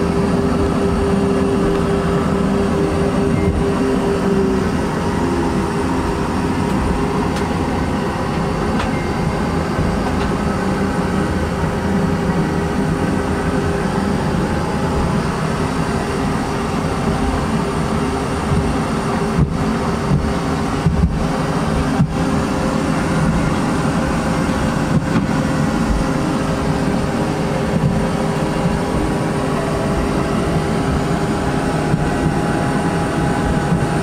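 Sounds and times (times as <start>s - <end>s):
airliner cabin drone: 0.0s - 34.0s.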